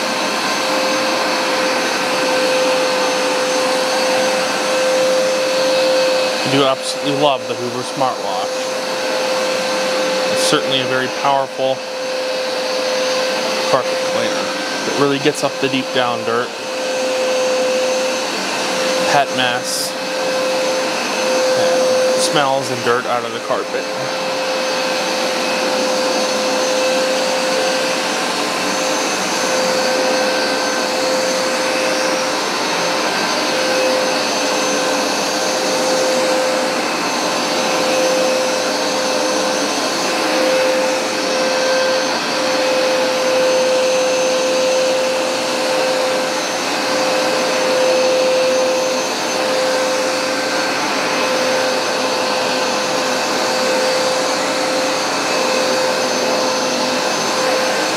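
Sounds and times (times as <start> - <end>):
carpet cleaner motor whine: 0.0 - 57.9.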